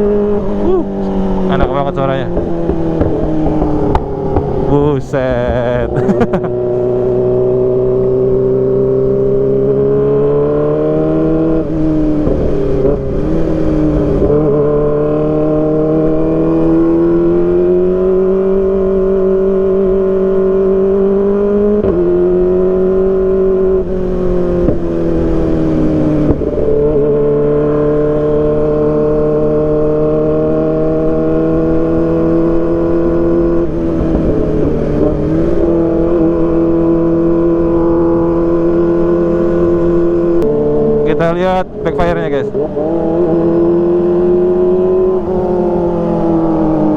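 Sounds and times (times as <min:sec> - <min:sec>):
motorcycle engine at high revs: 0:00.0 - 0:46.9.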